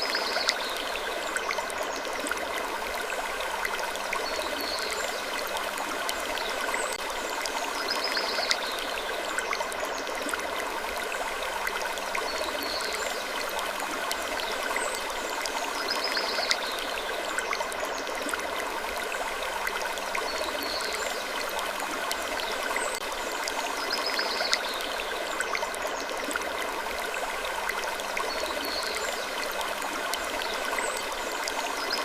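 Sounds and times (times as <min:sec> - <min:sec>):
rushing water-like noise: 0:00.0 - 0:32.0.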